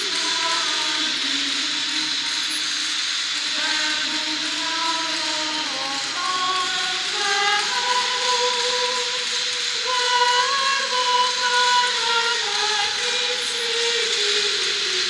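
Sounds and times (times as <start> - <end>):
slow sacred music: 0.0 - 15.0.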